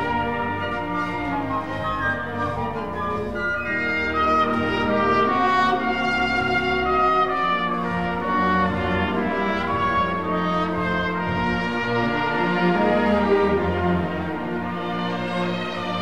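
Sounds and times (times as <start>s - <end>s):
orchestral music with brass: 0.0s - 16.0s.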